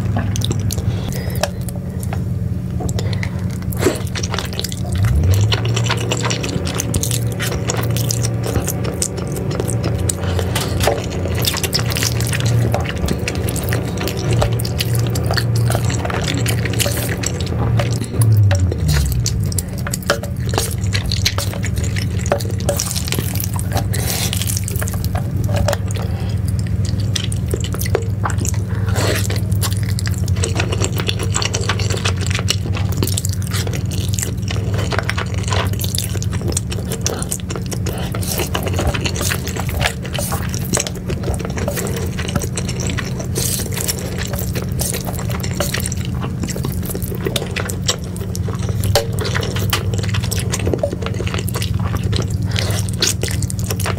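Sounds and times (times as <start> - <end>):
slurping and chewing noodles: 0.0 - 53.9
steady low hum: 0.0 - 53.9.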